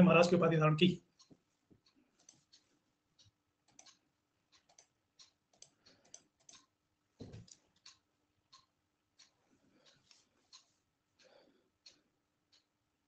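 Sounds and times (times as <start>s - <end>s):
faint irregular clicks: 0.8s - 13.0s.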